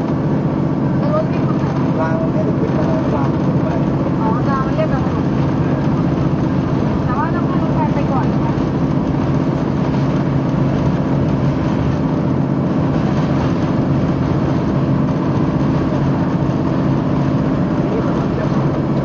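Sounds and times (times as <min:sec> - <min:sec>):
diesel engine drone: 0:00.0 - 0:19.0
train running noise: 0:00.0 - 0:19.0.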